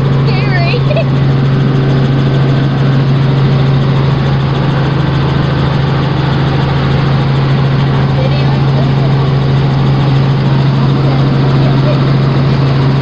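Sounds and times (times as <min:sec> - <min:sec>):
helicopter drone inside cabin: 0:00.0 - 0:13.0.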